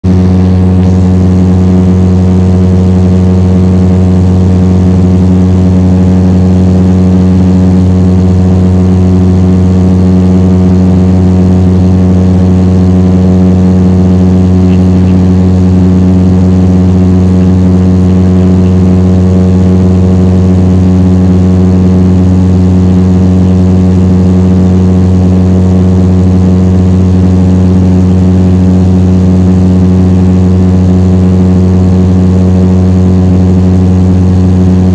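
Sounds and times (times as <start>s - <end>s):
turboprop engines droning: 0.0s - 34.9s.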